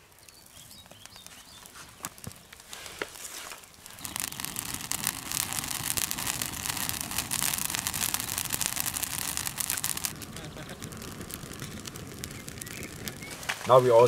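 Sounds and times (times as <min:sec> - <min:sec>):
campfire crackling: 0:00.0 - 0:14.0
fire rushing: 0:00.0 - 0:14.0.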